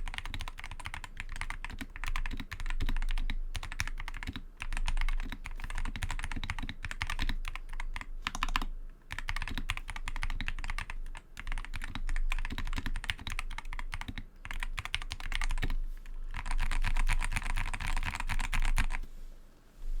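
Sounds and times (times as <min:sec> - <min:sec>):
mechanical keyboard typing: 0:00.0 - 0:19.0.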